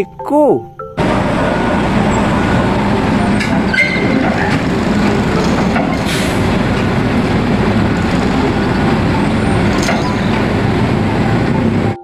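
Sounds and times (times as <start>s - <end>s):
truck engine running: 1.0s - 12.0s.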